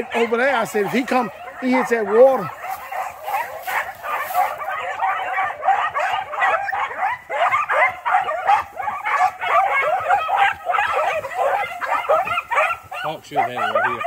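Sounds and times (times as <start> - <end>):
pack of dogs baying: 0.0 - 14.0.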